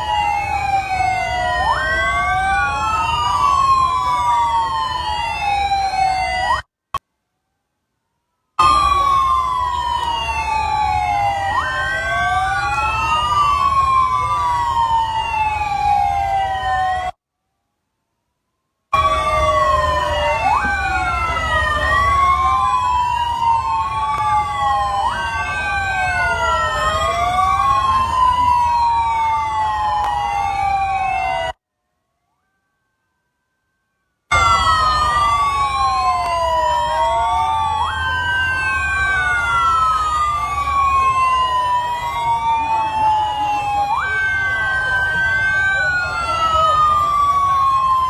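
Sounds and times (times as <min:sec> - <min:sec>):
police sirens wailing: 0:00.0 - 0:06.7, 0:08.6 - 0:17.2, 0:18.9 - 0:31.6, 0:34.3 - 0:48.0.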